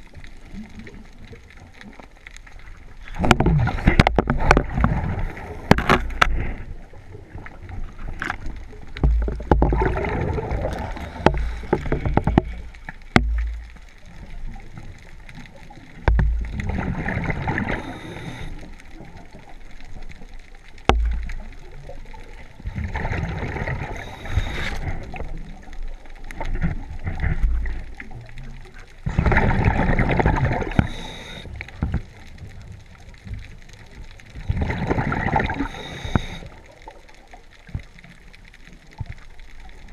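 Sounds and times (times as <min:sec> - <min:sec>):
underwater exhaled bubbles gurgling: 0:00.0 - 0:39.9.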